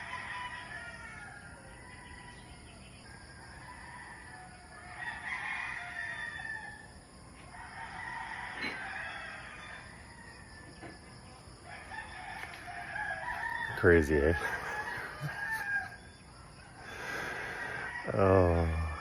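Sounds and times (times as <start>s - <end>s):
roosters crowing: 0.0s - 19.0s.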